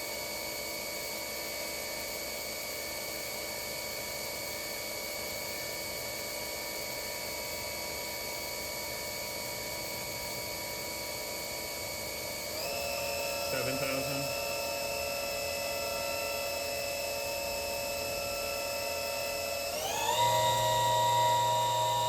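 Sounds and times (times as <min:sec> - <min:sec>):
machine spindle whine: 0:00.0 - 0:22.0.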